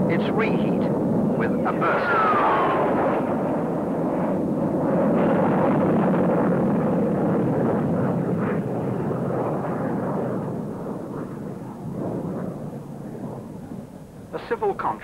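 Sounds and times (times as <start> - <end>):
jet fighter flying past: 0.0 - 15.0.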